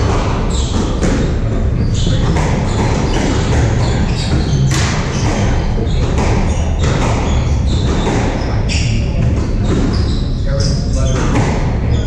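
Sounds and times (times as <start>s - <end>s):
squash ball strikes: 0.0s - 10.1s, 10.8s - 12.0s
shoe squeaks: 0.1s - 12.0s.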